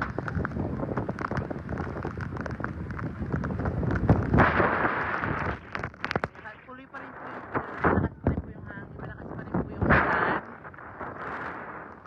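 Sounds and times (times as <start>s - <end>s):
heavy rain: 0.0s - 12.0s
wind buffeting microphone: 0.0s - 12.0s.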